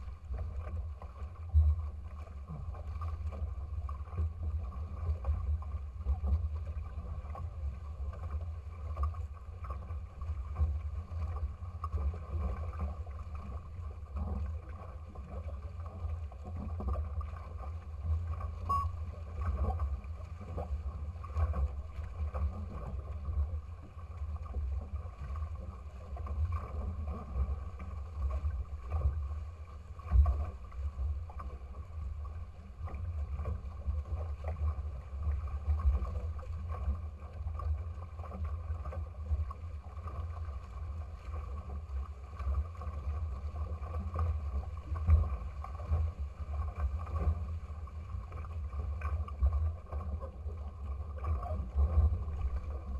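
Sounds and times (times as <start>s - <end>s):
water rushing along a hull: 0.0s - 52.9s.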